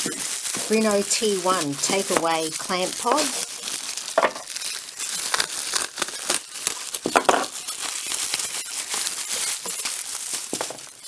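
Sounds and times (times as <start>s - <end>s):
bubble wrap crackling: 0.0s - 11.0s.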